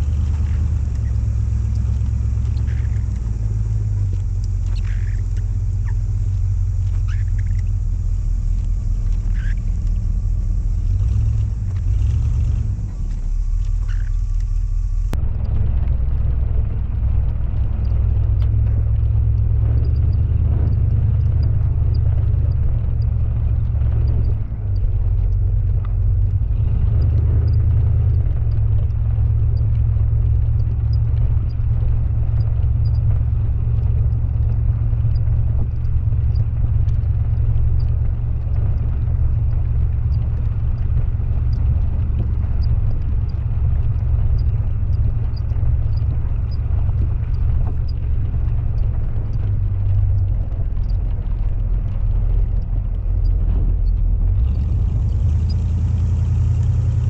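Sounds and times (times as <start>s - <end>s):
faint high ticks: 0.0s - 15.6s, 17.8s - 57.0s
vehicle engine rumble: 0.0s - 57.0s.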